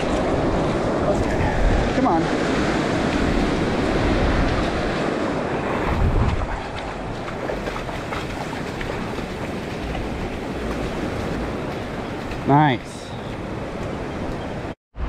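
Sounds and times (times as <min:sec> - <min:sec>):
surf washing up beach: 0:00.0 - 0:14.7
wind buffeting microphone: 0:00.0 - 0:14.8.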